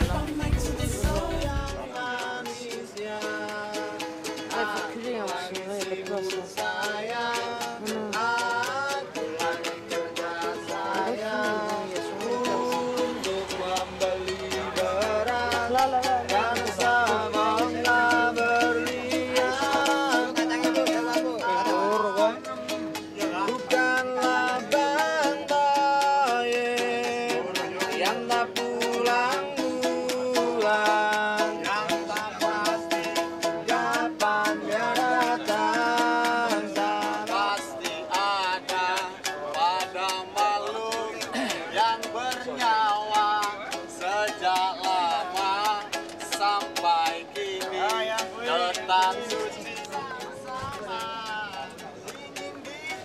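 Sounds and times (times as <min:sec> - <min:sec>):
person singing: 0:00.0 - 0:53.0
shaker beat: 0:00.0 - 0:53.0
strummed string instrument: 0:00.0 - 0:53.0.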